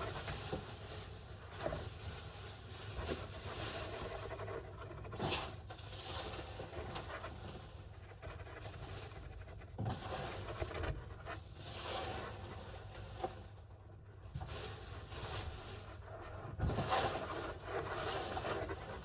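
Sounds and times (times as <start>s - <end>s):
hamster digging in sand: 0.0s - 13.7s, 14.4s - 19.0s.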